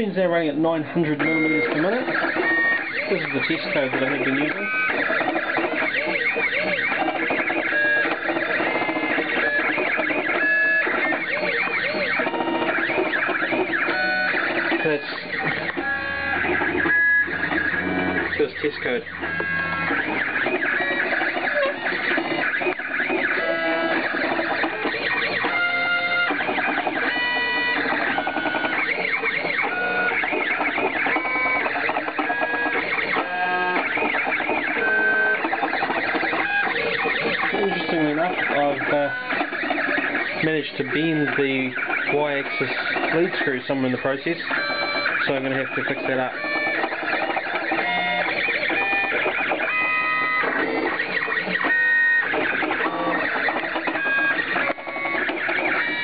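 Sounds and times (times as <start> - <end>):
stepper motors whining: 0.0 - 56.0.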